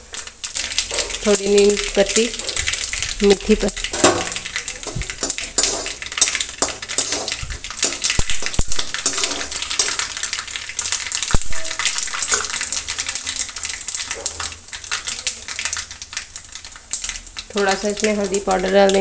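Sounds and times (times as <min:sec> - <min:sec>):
spices sizzling in hot oil: 0:00.0 - 0:19.0.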